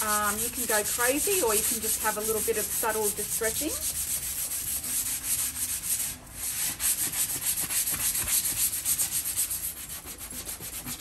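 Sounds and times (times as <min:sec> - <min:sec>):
sanding block scratching wood: 0:00.0 - 0:11.0.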